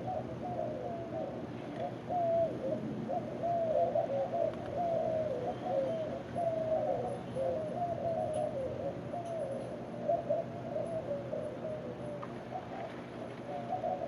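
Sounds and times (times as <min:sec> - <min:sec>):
birds giving wavering calls: 0:00.0 - 0:14.0.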